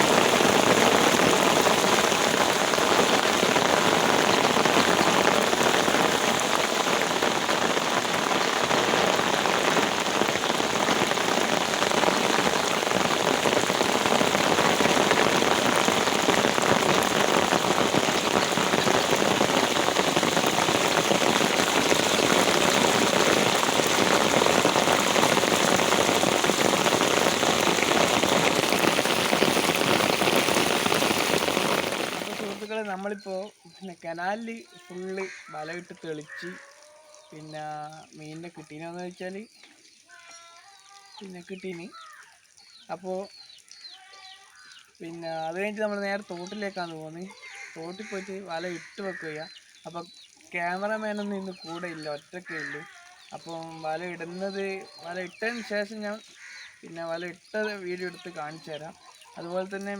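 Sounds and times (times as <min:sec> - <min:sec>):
heavy rain falling: 0:00.0 - 0:39.5, 0:42.9 - 0:59.9.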